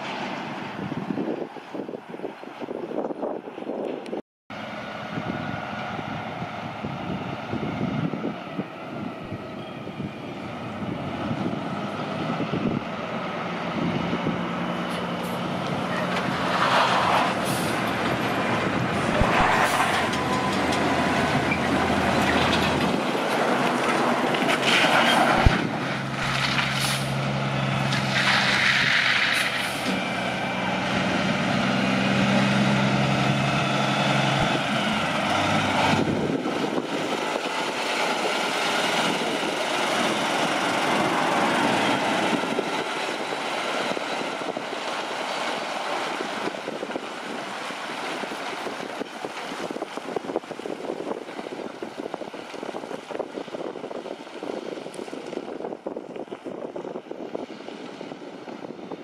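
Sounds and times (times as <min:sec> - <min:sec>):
diesel truck engine running: 0:04.5 - 0:54.6.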